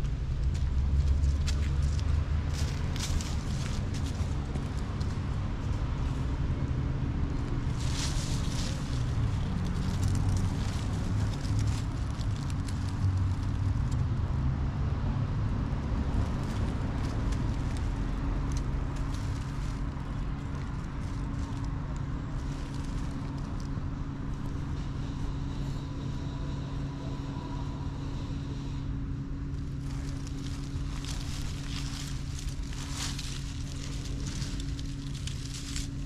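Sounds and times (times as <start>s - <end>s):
low rumble of motor traffic: 0.0s - 36.0s.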